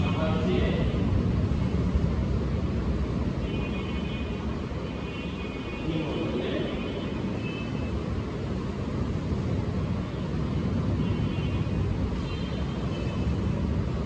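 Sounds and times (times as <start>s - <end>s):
classroom background rumble: 0.0s - 13.3s.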